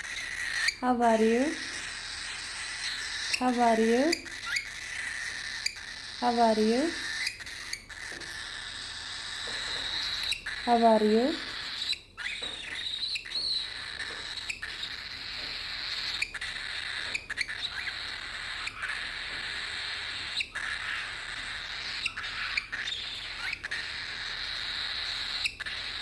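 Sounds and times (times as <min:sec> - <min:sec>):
cockatiel squeaky chirps: 0:00.0 - 0:26.0.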